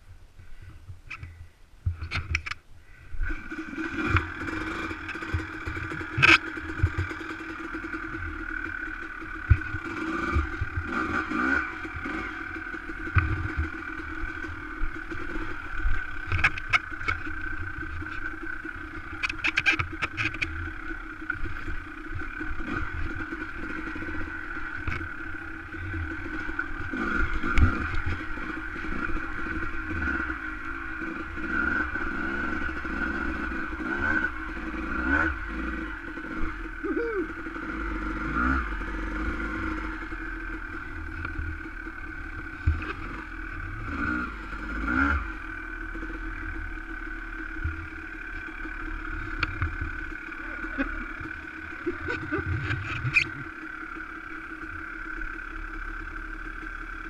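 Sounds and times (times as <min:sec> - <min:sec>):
dirt bike engine running: 0:00.1 - 0:57.0.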